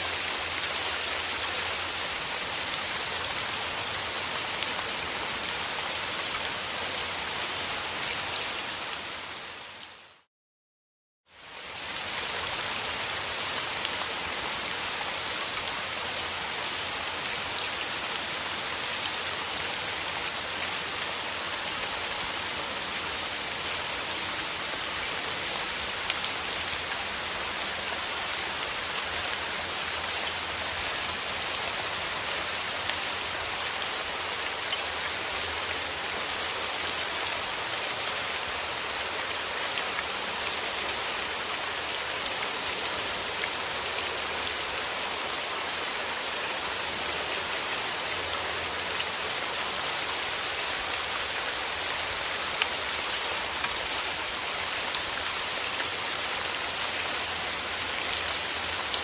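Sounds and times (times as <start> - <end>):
steady rain falling: 0.0 - 10.3, 11.3 - 59.0.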